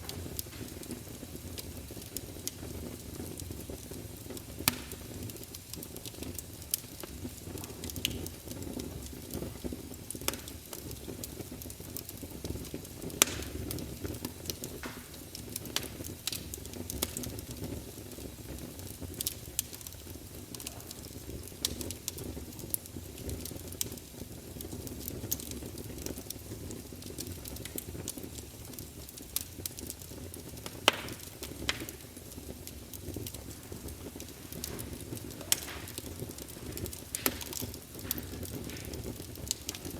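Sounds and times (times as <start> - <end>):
burning wood crackling and popping: 0.0 - 39.9
low rumble of campfire: 0.0 - 39.9.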